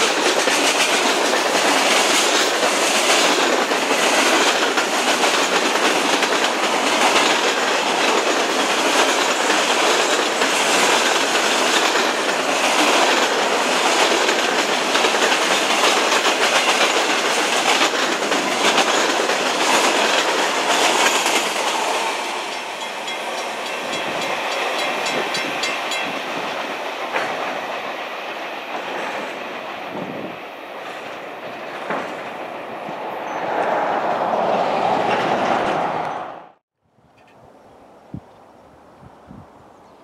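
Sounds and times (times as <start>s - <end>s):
freight train wheels clacking: 0.0s - 36.3s.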